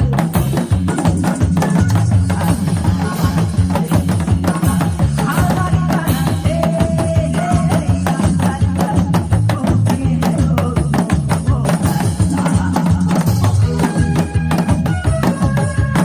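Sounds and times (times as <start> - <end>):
recorded song melody: 0.0 - 16.0.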